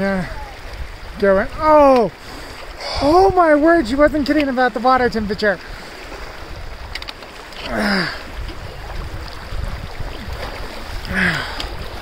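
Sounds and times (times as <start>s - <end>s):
creek rushing: 0.0s - 12.0s
legs wading through water: 0.0s - 12.0s.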